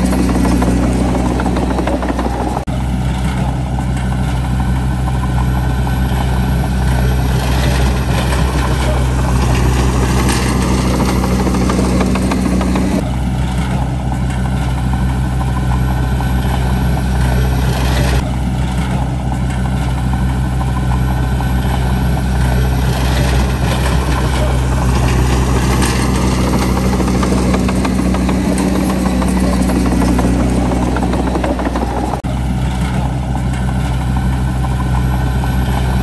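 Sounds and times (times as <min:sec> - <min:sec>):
bulldozer diesel engine running: 0:00.0 - 0:36.0.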